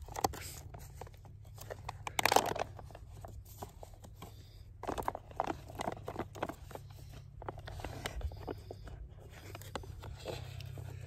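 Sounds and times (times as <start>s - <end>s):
foil pouch crinkling: 0.0s - 11.0s.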